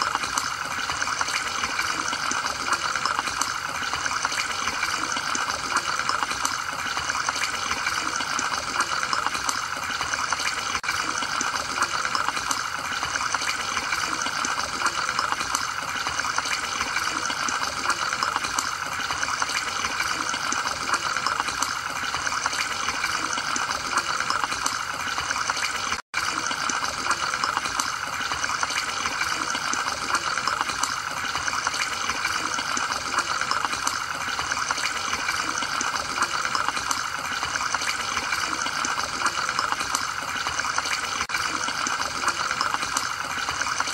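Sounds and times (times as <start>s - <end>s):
aquarium filter bubbling: 0.0s - 43.9s.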